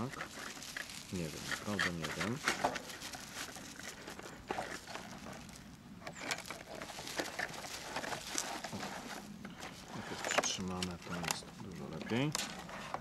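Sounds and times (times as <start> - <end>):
plastic sleeve crinkling: 0.0 - 12.7.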